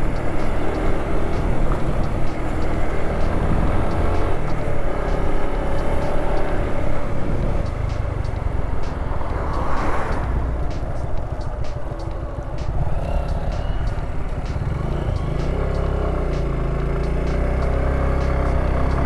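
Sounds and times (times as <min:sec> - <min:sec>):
bus passing by whoosh: 0:00.0 - 0:19.0
motorcycle engine: 0:00.0 - 0:19.0.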